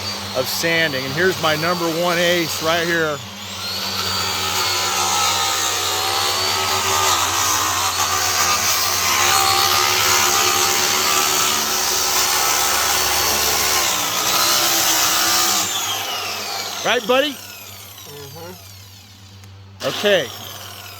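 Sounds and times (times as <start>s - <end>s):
power sander on wood: 0.0s - 20.9s.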